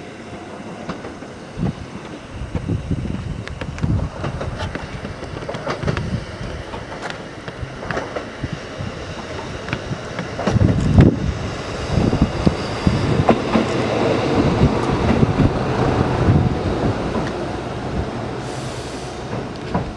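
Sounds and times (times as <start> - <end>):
diesel railcar passing: 0.0 - 19.9.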